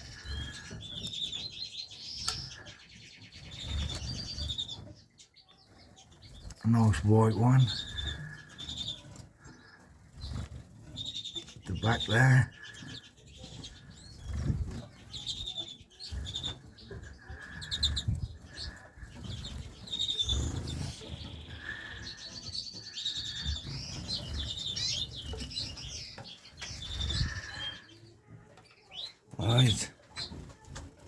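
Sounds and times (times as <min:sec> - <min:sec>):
finches chirping and trilling: 0:00.0 - 0:31.0.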